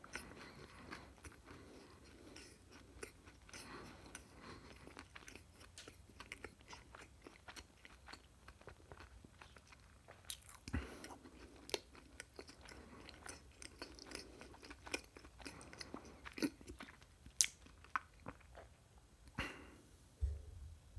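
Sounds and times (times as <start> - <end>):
chewing and crunching food: 0.0 - 20.4.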